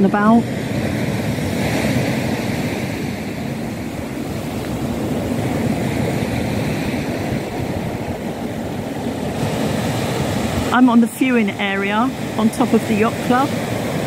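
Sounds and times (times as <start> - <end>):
waves washing on pebbles: 0.3 - 14.0.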